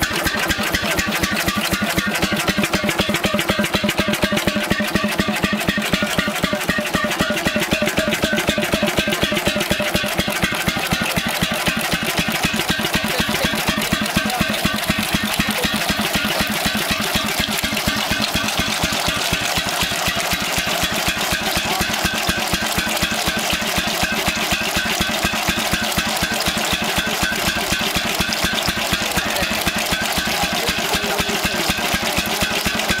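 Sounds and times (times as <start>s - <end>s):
stationary engine running: 0.0s - 33.0s.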